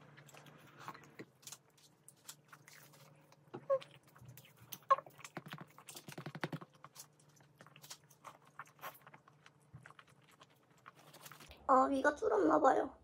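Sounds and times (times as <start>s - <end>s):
close chewing with mouth clicks: 0.0s - 11.5s.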